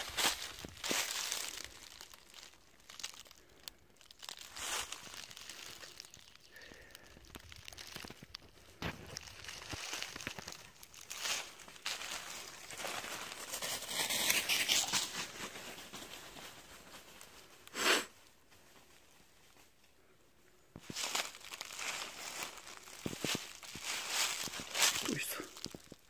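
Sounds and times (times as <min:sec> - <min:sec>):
footsteps in dry leaves: 0:00.0 - 0:19.8, 0:20.8 - 0:26.0.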